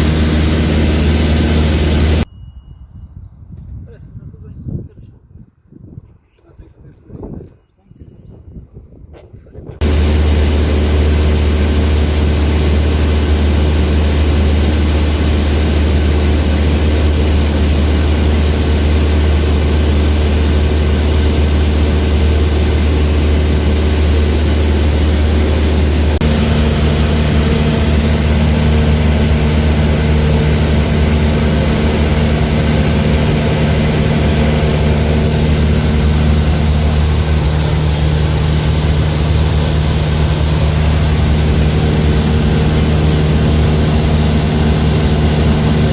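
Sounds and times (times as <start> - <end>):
propeller airplane engine droning: 0.0 - 2.3, 9.8 - 45.9.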